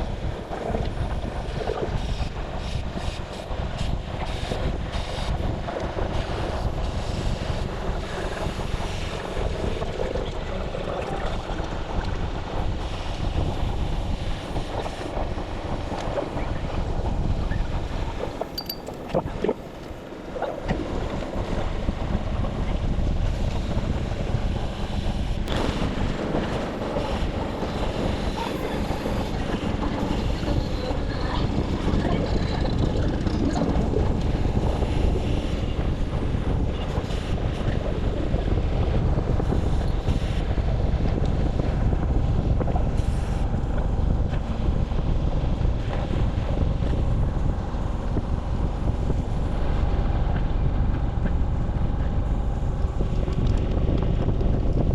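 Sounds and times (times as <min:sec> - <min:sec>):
wind on microphone: 0:00.0 - 0:54.9.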